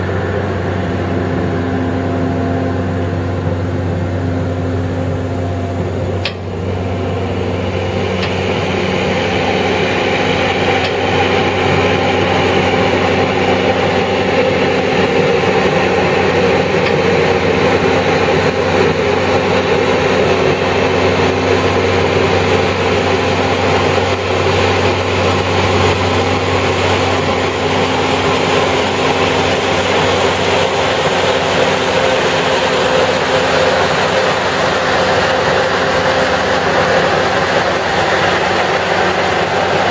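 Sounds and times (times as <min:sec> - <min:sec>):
engine hum: 0:00.0 - 0:39.9
machinery noise: 0:00.0 - 0:39.9.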